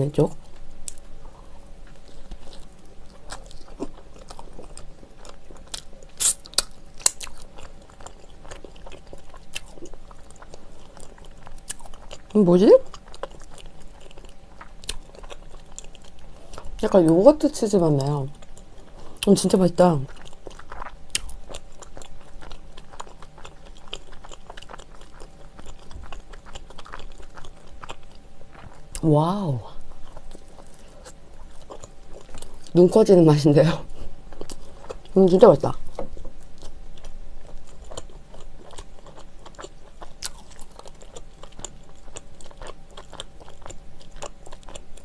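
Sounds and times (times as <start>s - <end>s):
person chewing with wet clicks: 0.4s - 1.1s, 1.8s - 33.0s, 34.3s - 45.0s.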